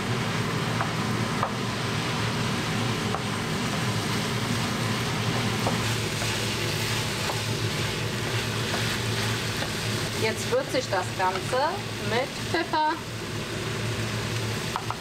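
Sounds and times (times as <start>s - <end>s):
filling sizzling in oil: 1.8s - 15.0s.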